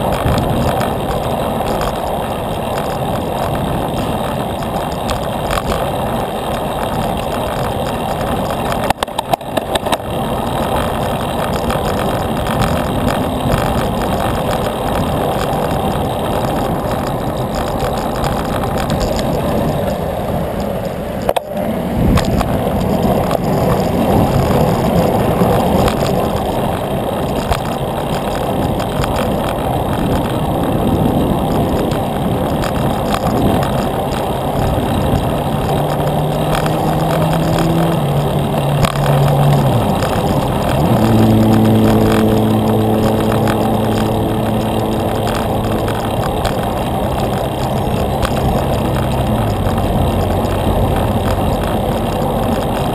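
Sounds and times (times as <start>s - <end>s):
bicycle road noise: 0.0s - 52.9s
motor traffic: 0.0s - 52.9s
short crackle: 0.0s - 52.9s
wind: 0.0s - 52.9s.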